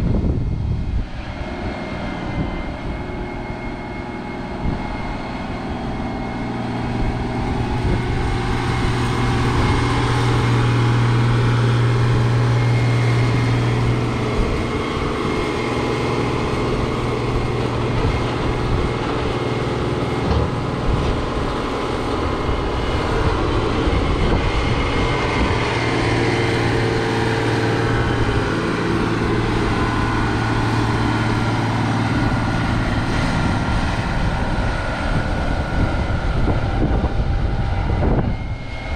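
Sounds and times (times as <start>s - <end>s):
farm machinery engine humming: 0.0s - 38.9s.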